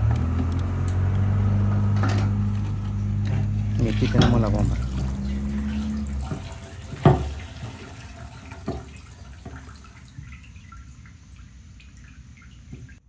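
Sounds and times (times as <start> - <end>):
fuel trickling and dripping: 0.0 - 13.0
low hum: 0.0 - 13.0.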